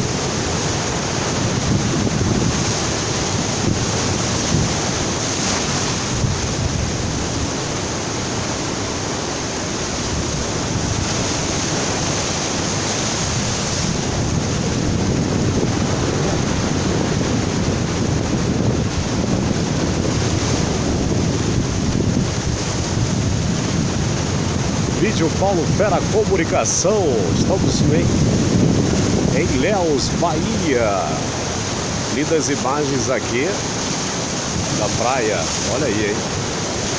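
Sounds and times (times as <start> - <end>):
wind buffeting microphone: 0.0 - 8.9, 9.8 - 36.9
ocean surf breaking: 0.0 - 36.9.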